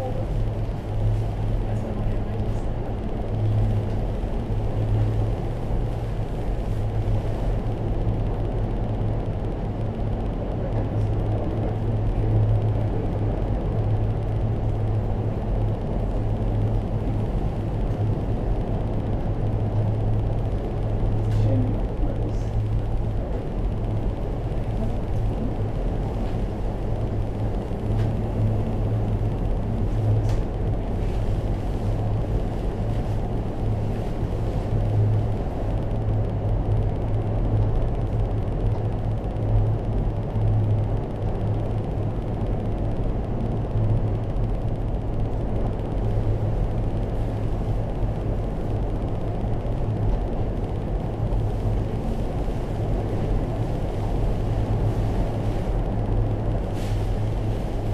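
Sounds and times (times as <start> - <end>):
cable car cabin hum and rumble: 0.0 - 57.9.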